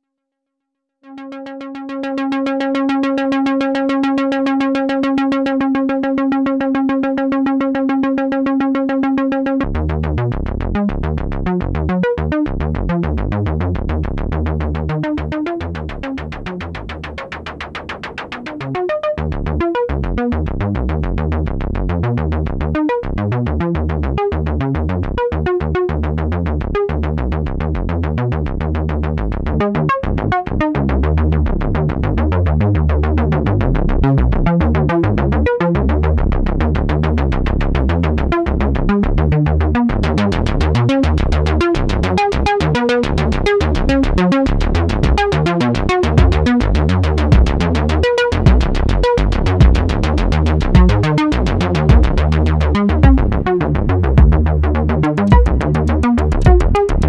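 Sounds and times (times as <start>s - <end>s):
synthesizer bass sequence: 1.0s - 57.0s.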